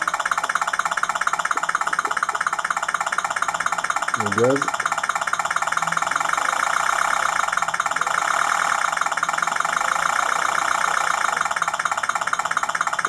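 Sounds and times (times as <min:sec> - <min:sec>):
simulated engine through small speaker: 0:00.0 - 0:13.0.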